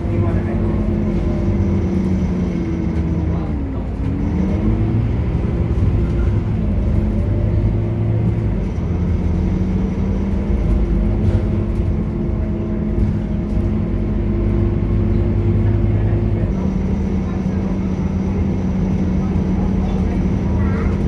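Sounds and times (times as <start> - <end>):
bus diesel engine drone: 0.0 - 21.0.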